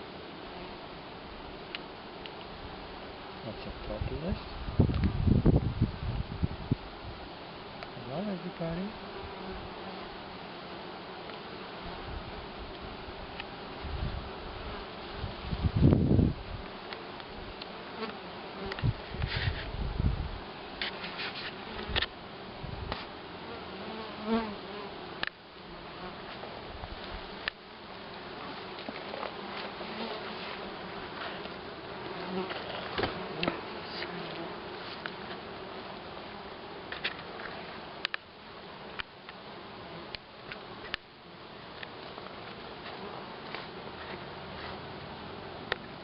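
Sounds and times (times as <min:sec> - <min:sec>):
bees buzzing: 0:00.0 - 0:46.0.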